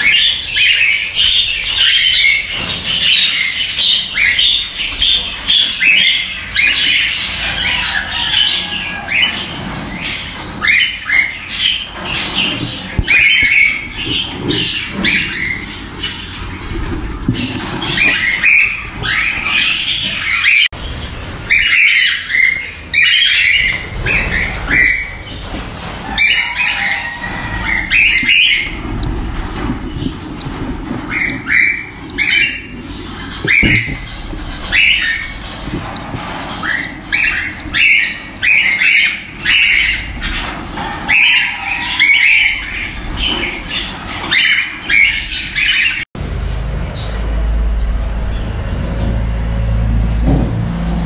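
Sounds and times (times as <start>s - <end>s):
cockatiels squawking: 0.0s - 20.7s, 21.5s - 46.0s.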